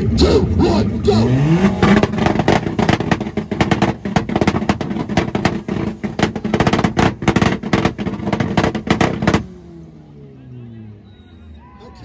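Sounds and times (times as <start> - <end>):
exhaust bangs and pops: 0.0 - 9.7.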